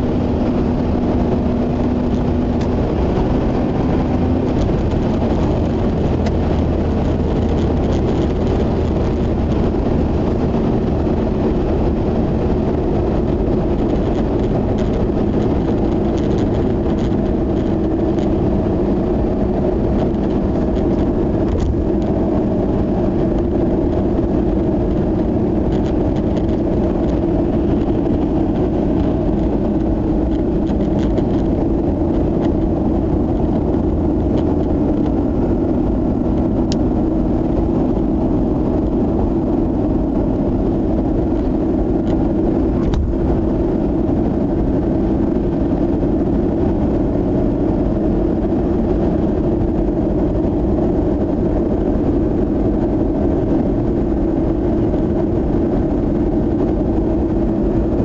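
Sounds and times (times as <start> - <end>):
car engine drone in cabin: 0.0 - 58.0
tyre noise on asphalt: 0.0 - 58.0.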